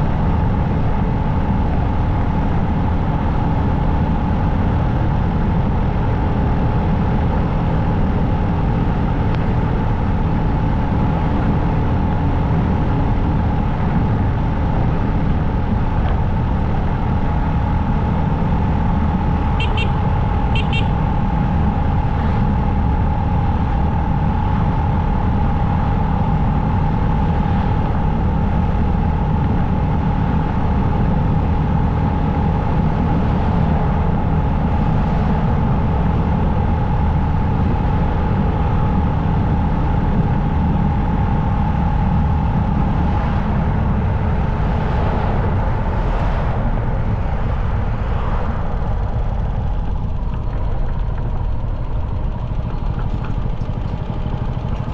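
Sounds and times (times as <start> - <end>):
motorcycle cruising: 0.0 - 54.9
steady whine: 0.0 - 54.9.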